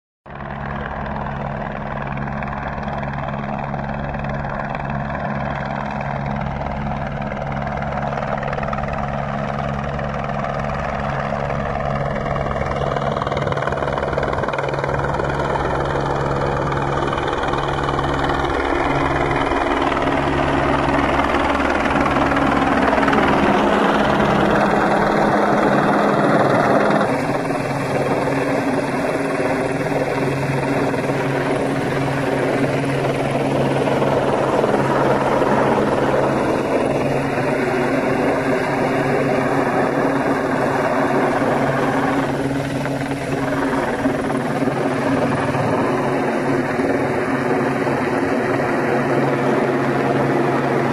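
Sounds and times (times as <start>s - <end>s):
helicopter hovering: 0.3s - 50.9s.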